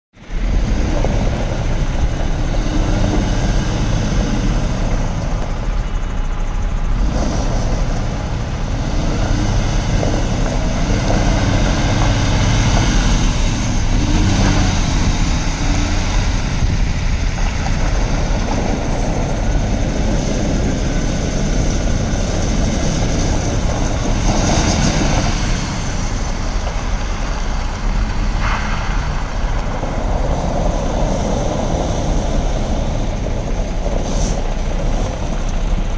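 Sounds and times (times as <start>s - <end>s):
truck diesel engine passing: 0.2s - 35.9s.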